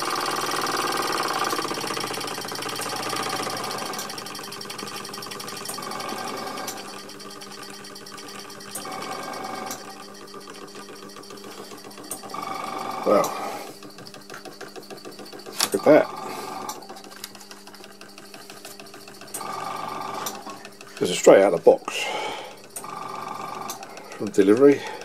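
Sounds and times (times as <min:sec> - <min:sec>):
model steam engine running: 0:00.0 - 0:09.8, 0:11.5 - 0:25.0.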